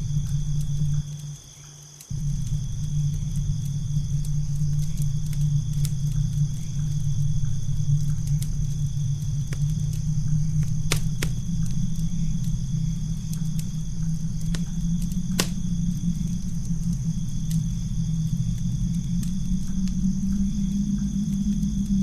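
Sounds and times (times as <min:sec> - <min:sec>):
low rumble: 0:00.0 - 0:01.4, 0:02.1 - 0:22.0
campfire crackling: 0:00.0 - 0:22.0.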